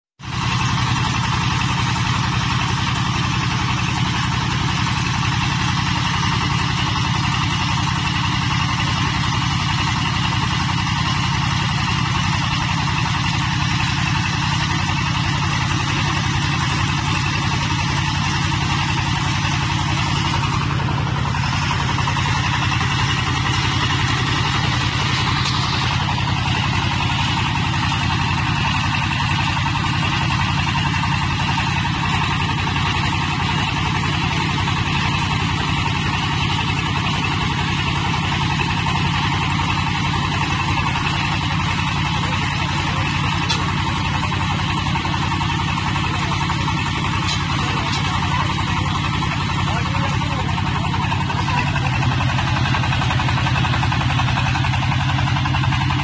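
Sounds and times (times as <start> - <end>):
diesel engine running: 0.2 - 56.0.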